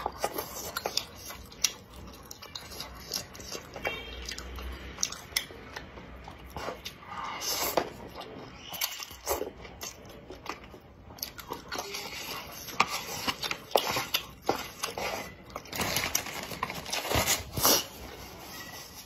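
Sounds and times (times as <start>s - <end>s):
chewing with mouth smacks: 0.0s - 15.9s.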